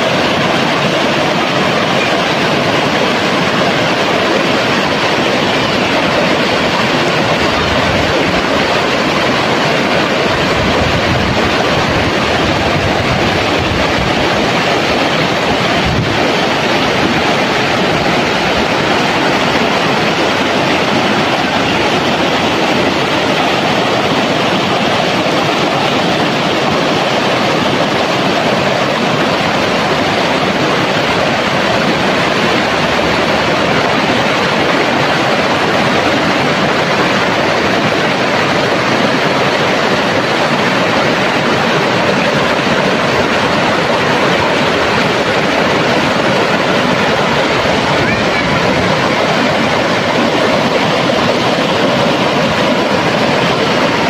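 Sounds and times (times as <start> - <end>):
river rushing over stones: 0.0 - 54.0.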